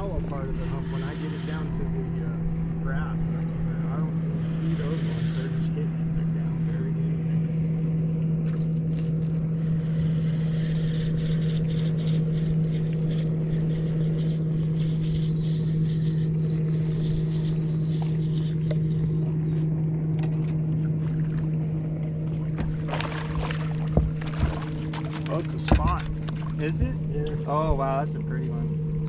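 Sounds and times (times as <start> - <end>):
boat motor humming: 0.0 - 29.0.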